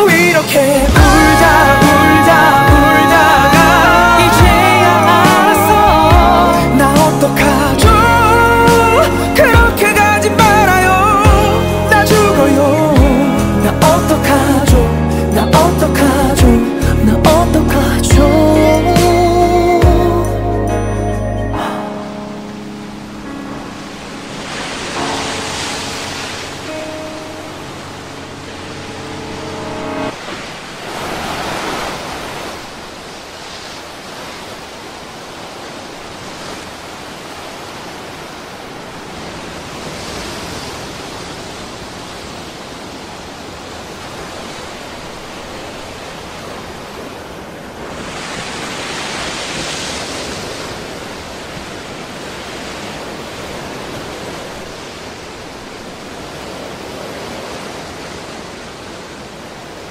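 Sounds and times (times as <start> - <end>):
waves washing on shore: 0.0 - 14.2, 21.8 - 59.9.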